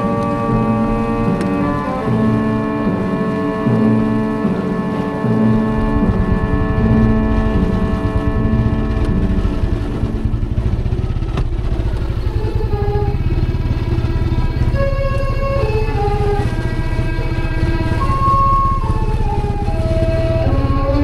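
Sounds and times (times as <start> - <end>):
motorcycle engine running: 0.0 - 21.0
music of held notes: 0.0 - 21.0.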